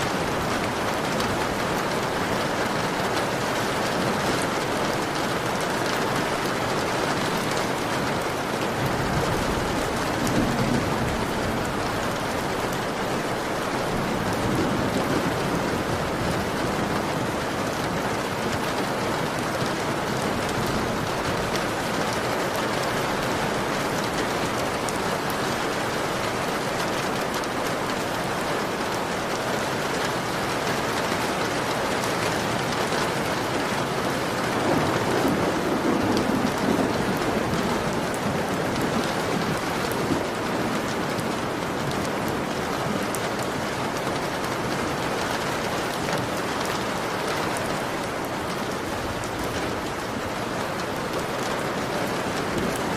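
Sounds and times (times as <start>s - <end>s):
heavy rain on a window: 0.0s - 52.9s.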